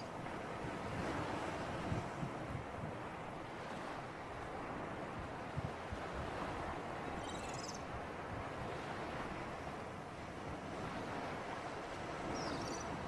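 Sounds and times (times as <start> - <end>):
wind and waves rushing: 0.0 - 13.0
wind buffeting microphone: 0.0 - 13.0.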